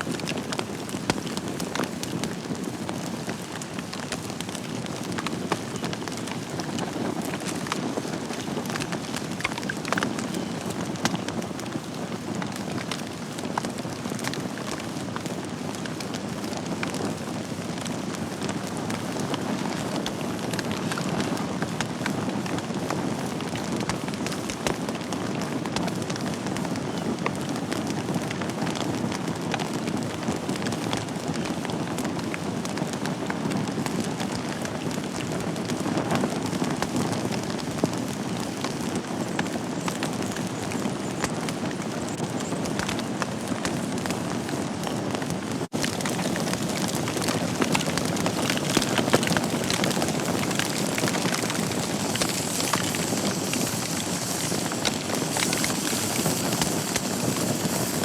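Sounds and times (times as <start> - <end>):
logs crackling and popping: 0.0 - 58.0
wood fire hissing: 0.0 - 58.0.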